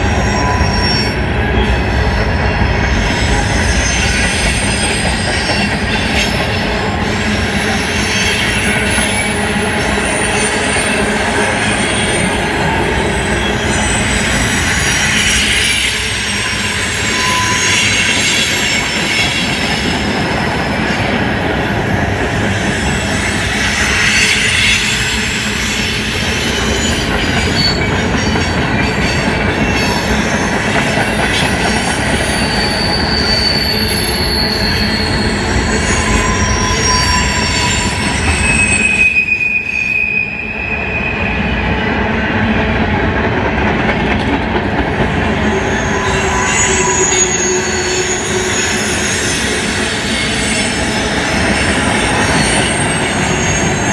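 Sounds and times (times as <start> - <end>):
high-pitched wheel squeal: 0.0 - 20.0, 22.6 - 41.5, 45.3 - 53.9
freight train wheels rumbling on rail: 0.0 - 53.9.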